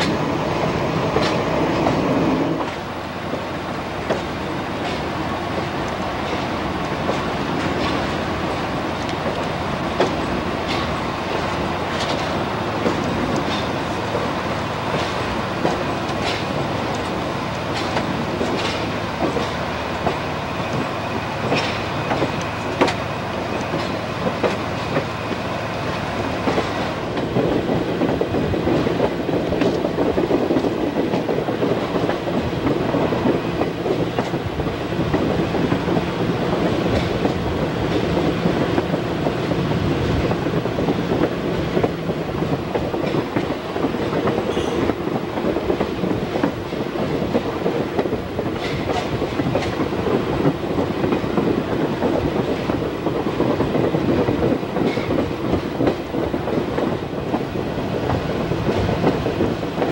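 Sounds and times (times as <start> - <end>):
train rumbling on track: 0.0 - 59.9
wheels clicking over rail joints: 0.0 - 59.9.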